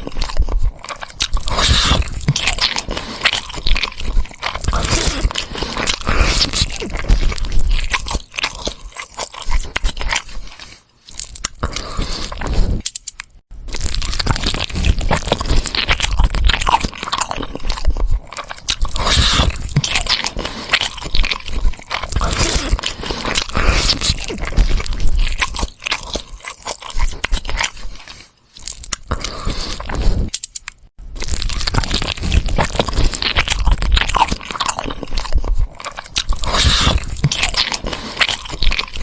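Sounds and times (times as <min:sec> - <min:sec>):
crunching bones while chewing: 0:00.0 - 0:39.0.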